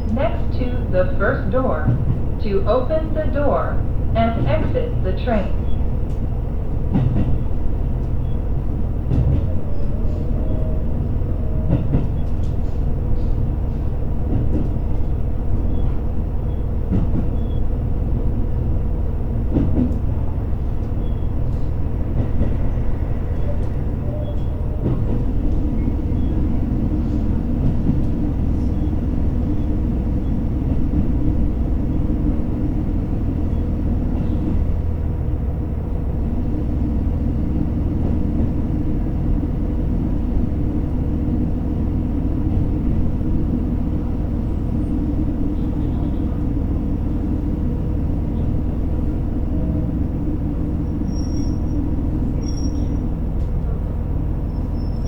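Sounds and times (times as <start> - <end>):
railcar low rumble: 0.0 - 55.0.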